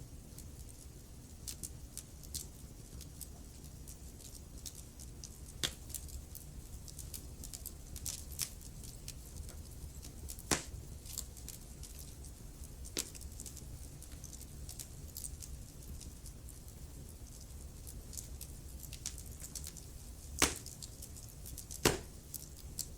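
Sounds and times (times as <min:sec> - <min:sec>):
fire crackling: 0:00.0 - 0:22.9
wood fire popping: 0:01.4 - 0:22.9.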